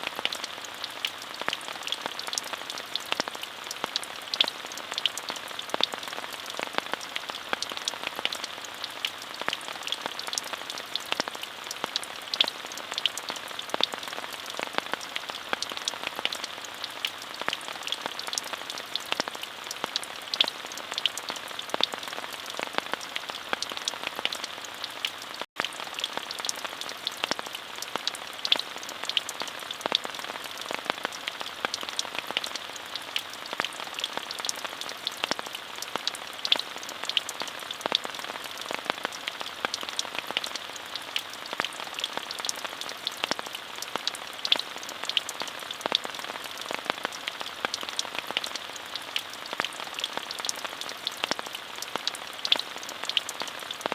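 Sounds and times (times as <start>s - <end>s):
steady rain hissing: 0.0s - 53.9s.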